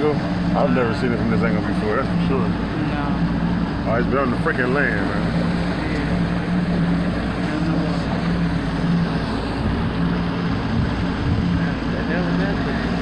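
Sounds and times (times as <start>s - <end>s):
motorboat engine running: 0.0s - 13.0s
rush of wind and water: 0.0s - 13.0s.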